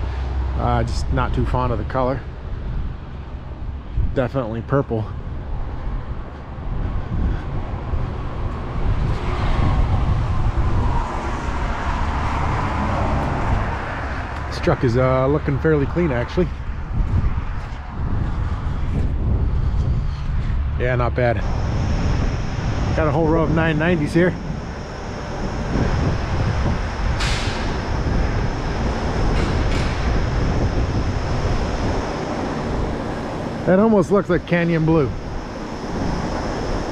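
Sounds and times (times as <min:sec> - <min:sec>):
wind buffeting microphone: 0:00.0 - 0:36.9
motor vehicle running: 0:05.2 - 0:36.9.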